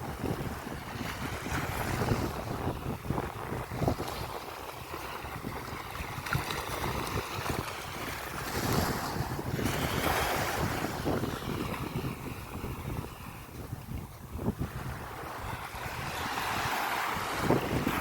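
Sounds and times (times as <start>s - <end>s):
sea waves washing onto beach: 0.0s - 18.0s
wind buffeting microphone: 0.0s - 18.0s.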